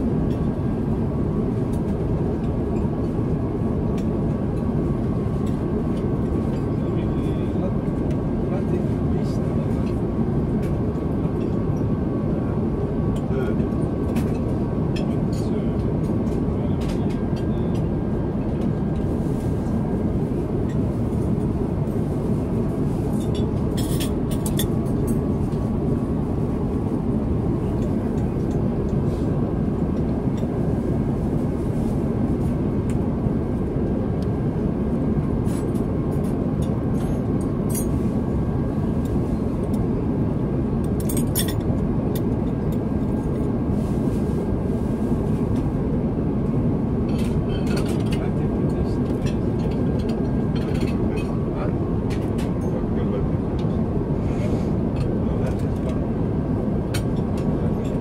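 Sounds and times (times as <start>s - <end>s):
airplane cabin rush: 0.0s - 58.0s.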